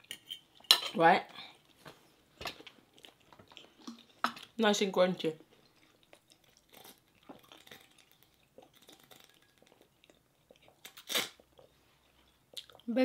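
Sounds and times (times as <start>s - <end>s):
soft chewing and swallowing: 0.0s - 4.6s, 5.4s - 12.9s.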